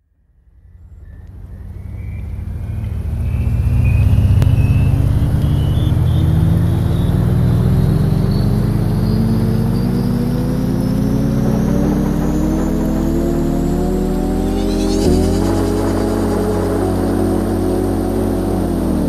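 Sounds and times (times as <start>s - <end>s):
deep rumbling drone: 0.0s - 19.0s
rising electronic tones: 0.9s - 19.0s.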